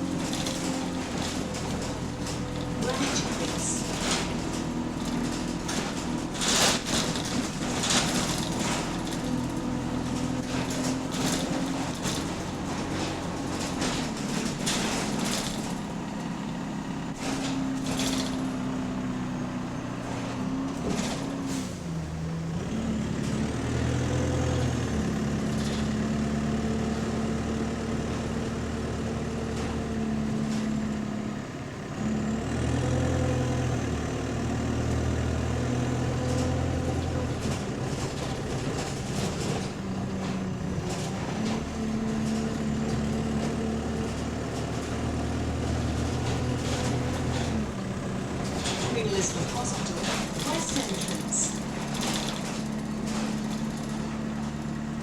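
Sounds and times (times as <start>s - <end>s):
knocks and rattles: 0.0s - 19.2s, 19.9s - 21.5s, 23.1s - 28.0s, 28.7s - 31.3s, 34.7s - 55.0s
bus engine droning: 0.0s - 55.0s.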